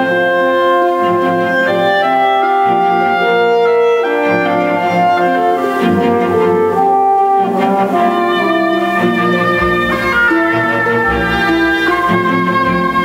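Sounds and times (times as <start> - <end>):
slow instrumental music: 0.0 - 13.0.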